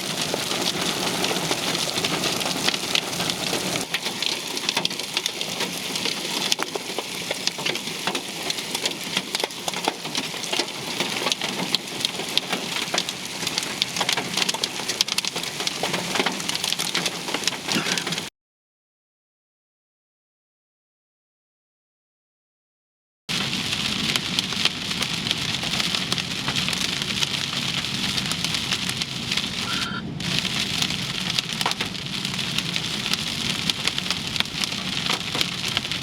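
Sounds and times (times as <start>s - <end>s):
heavy rain pelting down: 0.0s - 18.3s, 23.3s - 36.0s.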